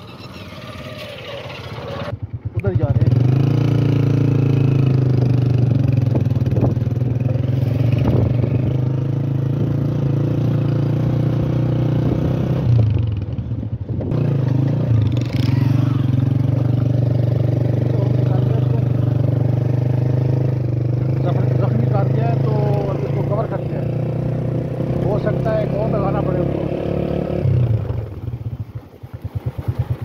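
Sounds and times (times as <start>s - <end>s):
motorcycle engine running: 1.4s - 30.0s.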